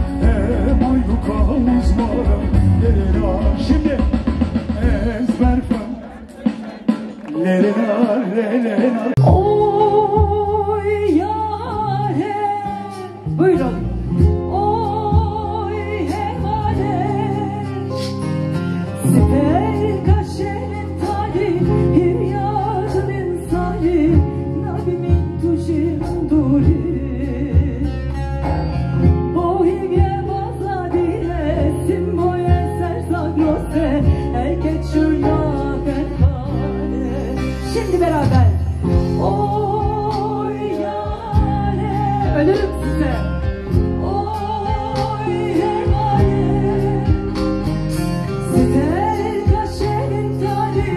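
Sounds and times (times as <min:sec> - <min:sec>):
instrumental accompaniment: 0:00.0 - 0:50.9
woman singing into a microphone: 0:07.3 - 0:50.9.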